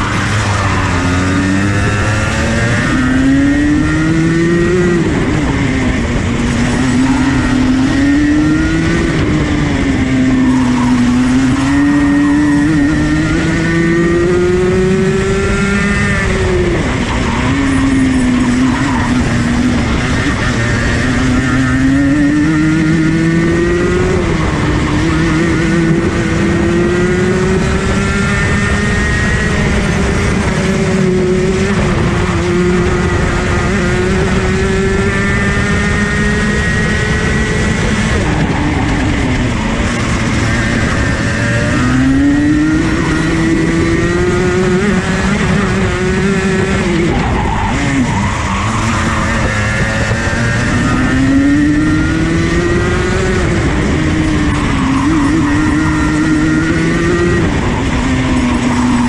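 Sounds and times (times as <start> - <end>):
two-stroke kart engine revving: 0.0 - 59.0.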